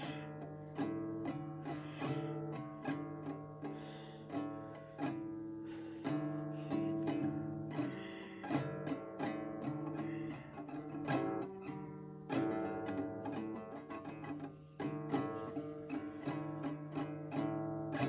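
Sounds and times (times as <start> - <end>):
acoustic guitar strummed and plucked: 0.0 - 18.0.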